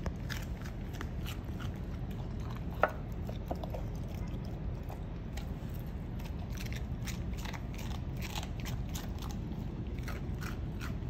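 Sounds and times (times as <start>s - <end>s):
puppy crunching vegetables: 0.0s - 11.0s.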